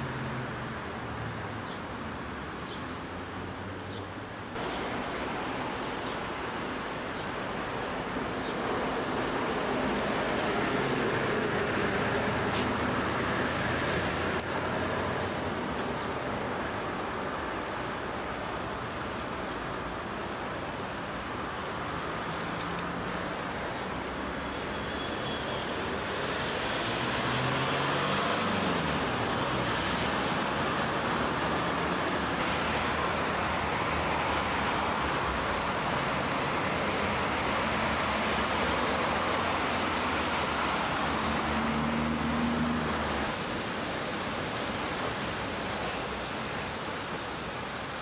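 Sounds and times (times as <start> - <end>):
passing vehicle engines: 0.0 - 19.3, 20.8 - 48.0
street traffic noise: 0.0 - 48.0.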